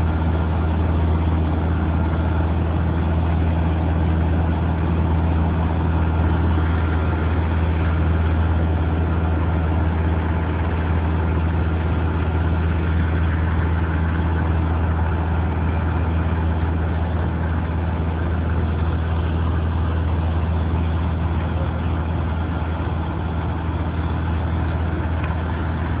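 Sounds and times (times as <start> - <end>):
heavy engine humming: 0.0 - 26.0.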